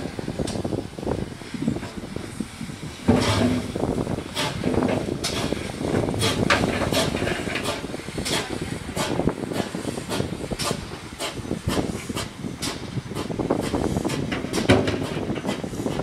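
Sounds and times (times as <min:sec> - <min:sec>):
steady steam hiss: 0:00.0 - 0:16.0
steam locomotive exhaust chuffing: 0:00.0 - 0:16.0.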